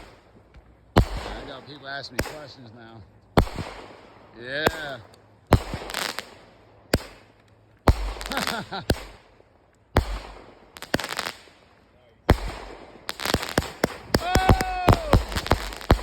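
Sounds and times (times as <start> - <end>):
firework bangs: 0.0 - 0.2, 0.9 - 16.0
firework crackle: 0.0 - 0.3, 1.0 - 16.0.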